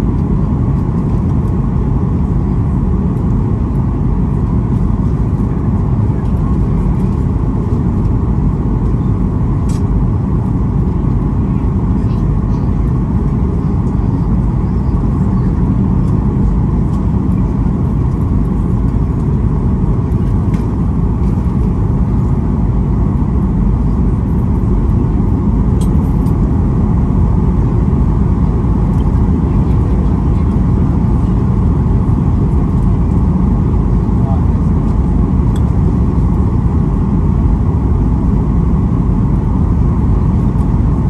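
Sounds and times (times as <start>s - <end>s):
jet engine cabin rumble: 0.0s - 41.0s.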